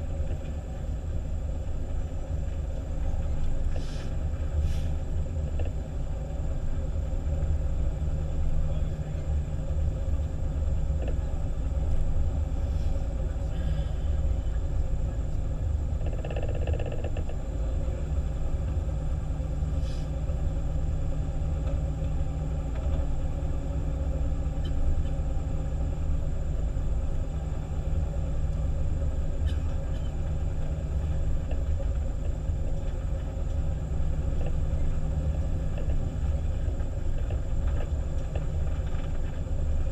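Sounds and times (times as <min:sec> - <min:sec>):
diesel engine and road rumble: 0:00.0 - 0:39.9.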